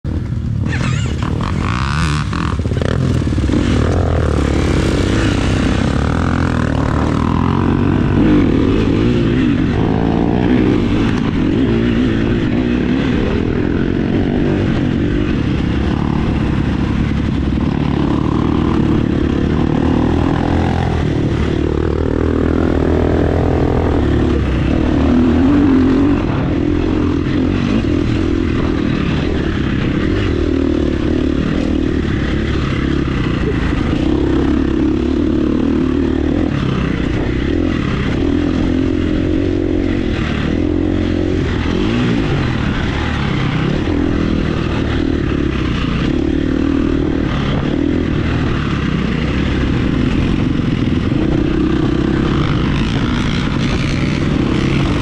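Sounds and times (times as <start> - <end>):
off-road vehicle engine revving: 0.6 - 55.0.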